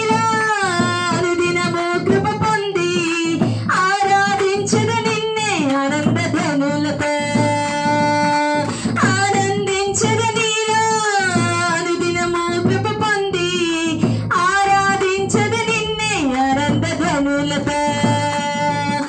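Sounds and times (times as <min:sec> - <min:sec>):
hand drum beat: 0:00.0 - 0:19.0
woman singing into a microphone: 0:00.0 - 0:19.0.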